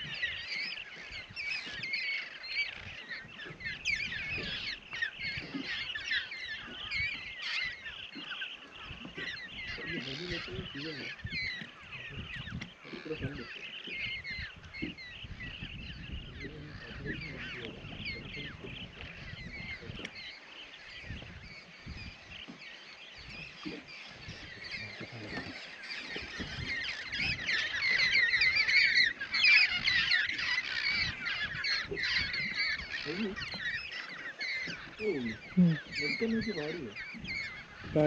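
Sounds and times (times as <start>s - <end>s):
flock of birds squawking: 0.0s - 38.0s.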